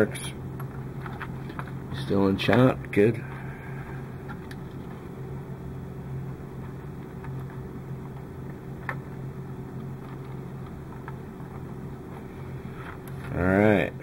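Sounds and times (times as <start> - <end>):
steady low motor hum: 0.0 - 14.0.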